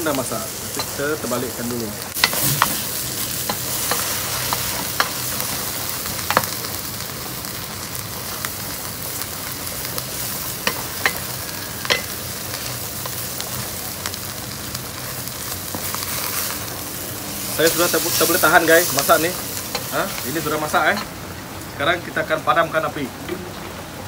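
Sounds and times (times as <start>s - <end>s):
fish sizzling in a pan: 0.0s - 23.1s.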